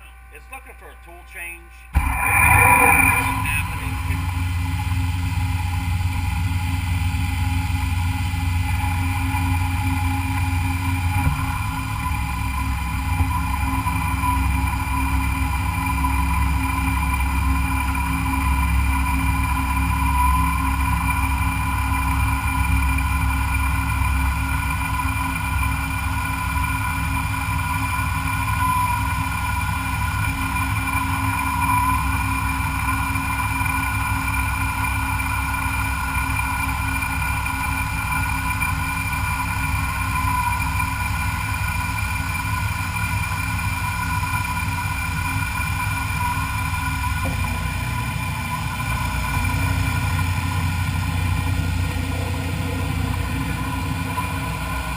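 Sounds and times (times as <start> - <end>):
high machine whine: 0.0 - 54.9
low machine hum: 0.0 - 54.9.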